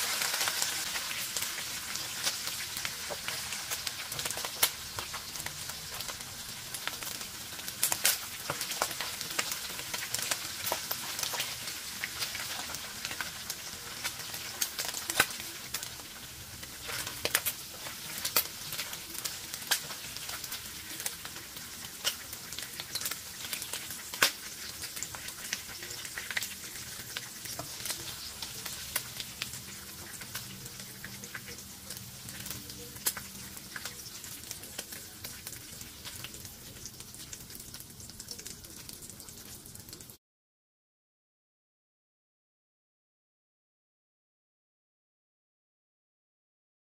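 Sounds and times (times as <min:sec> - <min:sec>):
food sizzling in hot oil: 0:00.0 - 0:40.2
spoon stirring in pan: 0:01.3 - 0:40.0.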